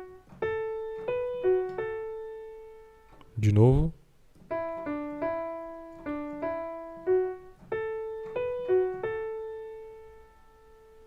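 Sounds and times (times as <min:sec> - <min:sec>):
piano playing slow melody: 0:00.0 - 0:03.4, 0:04.4 - 0:11.0.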